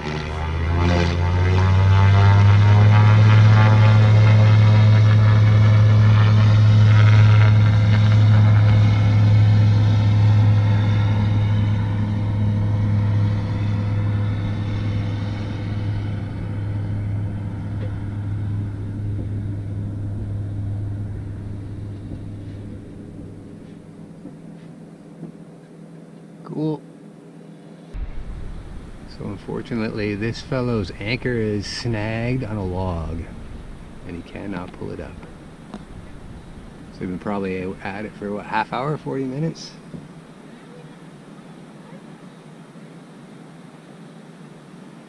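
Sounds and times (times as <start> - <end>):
propeller airplane flying past: 0.0 - 45.0.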